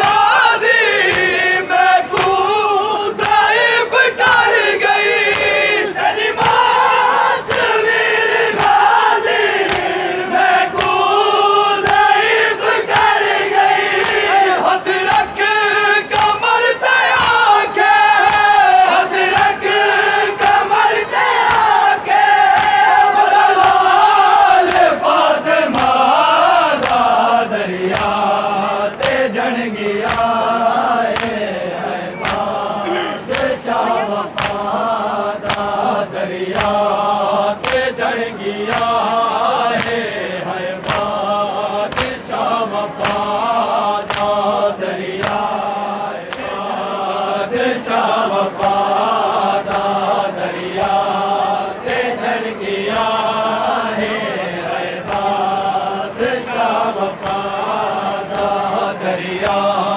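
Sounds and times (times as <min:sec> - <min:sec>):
men chanting a lament: 0:00.0 - 0:59.9.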